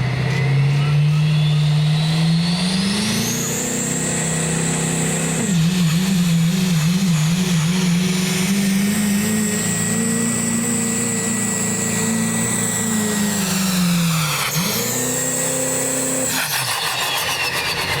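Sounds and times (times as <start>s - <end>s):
high whine winding down: 0.0s - 18.0s
truck engine at full throttle: 0.0s - 18.0s.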